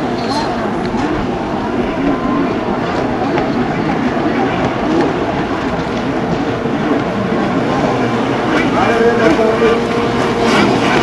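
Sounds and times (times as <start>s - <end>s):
jet ski engine whining: 0.0s - 11.0s.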